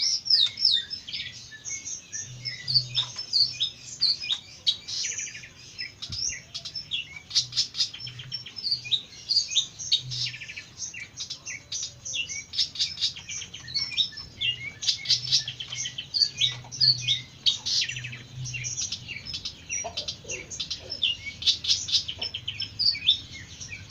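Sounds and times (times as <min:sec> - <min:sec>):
bird singing chirps and trills: 0:00.0 - 0:23.9.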